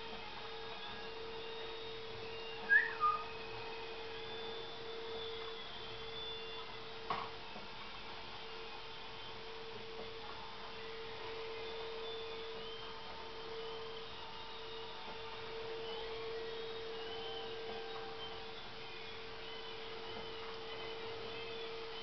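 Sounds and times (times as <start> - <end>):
faint high-pitched whistles: 0.2 - 22.0.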